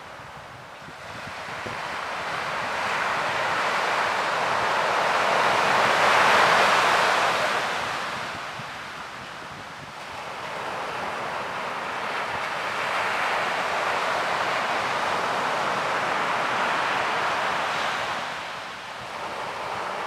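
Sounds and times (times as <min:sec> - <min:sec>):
ocean surf rushing: 0:01.1 - 0:08.6, 0:10.1 - 0:20.0.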